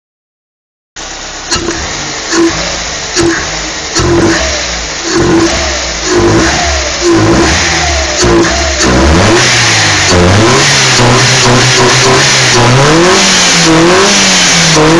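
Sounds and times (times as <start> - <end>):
car engine revving: 1.0 - 14.9
engine intake noise: 1.0 - 14.9.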